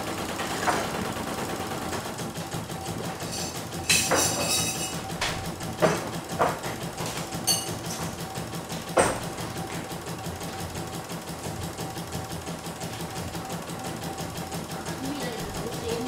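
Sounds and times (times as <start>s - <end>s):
embroidery machine stitching: 0.0s - 16.0s.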